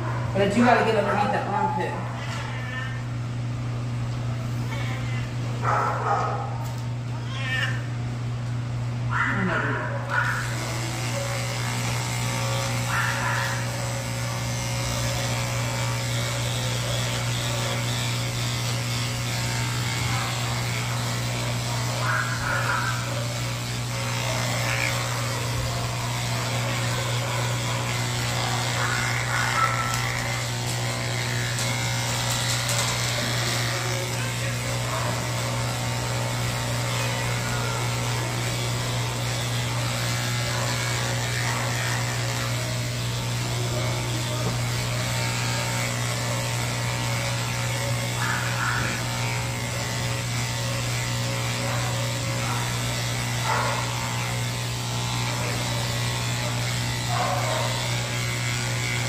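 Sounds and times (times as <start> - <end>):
electric clippers humming: 0.0 - 59.0.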